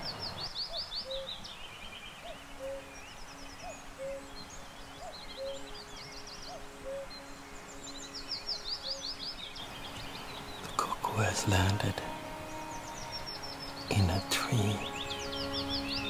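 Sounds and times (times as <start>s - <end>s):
cuckoo calling: 0.0s - 16.0s
songbirds trilling: 0.0s - 16.0s.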